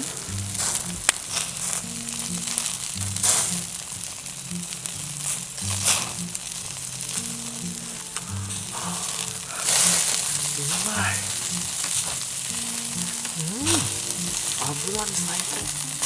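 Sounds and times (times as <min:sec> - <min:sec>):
background music with bass line: 0:00.0 - 0:16.0
meat sizzling in a pan: 0:00.0 - 0:16.0.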